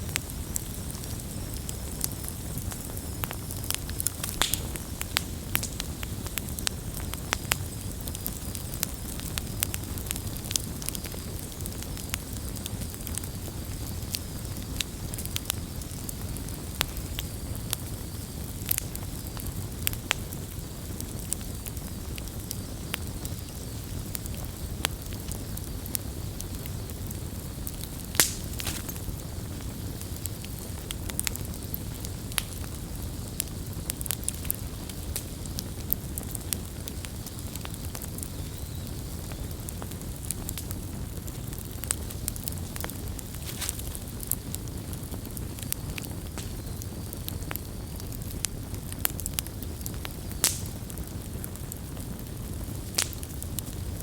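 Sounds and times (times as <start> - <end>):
flame rumbling: 0.0 - 54.0
logs crackling and popping: 0.0 - 54.0.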